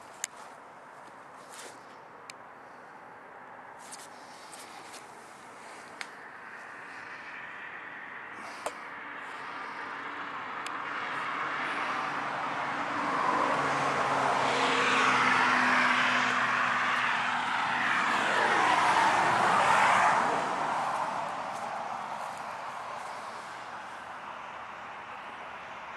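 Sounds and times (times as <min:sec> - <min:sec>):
vehicle engine passing: 0:04.2 - 0:25.9.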